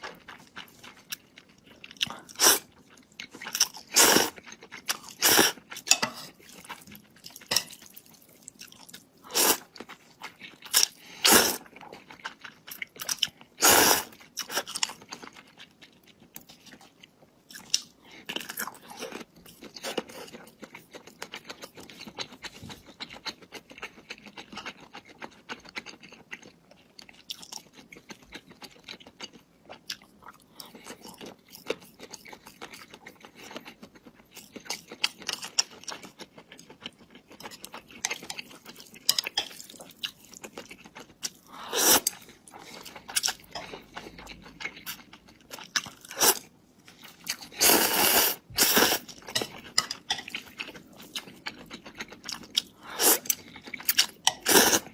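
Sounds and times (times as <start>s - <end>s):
chewing and crunching food: 0.0s - 54.9s.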